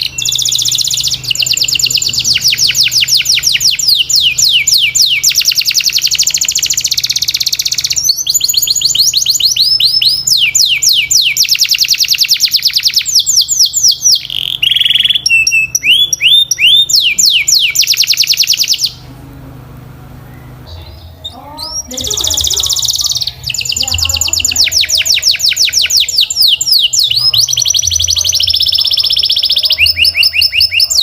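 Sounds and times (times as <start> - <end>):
canary singing trills: 0.0 - 19.2, 20.0 - 31.0.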